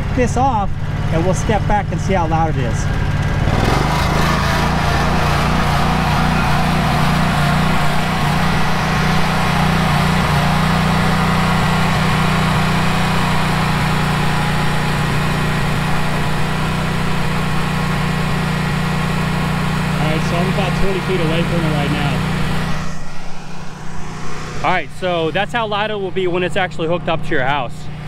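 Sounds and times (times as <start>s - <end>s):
generator engine droning: 0.0s - 28.0s.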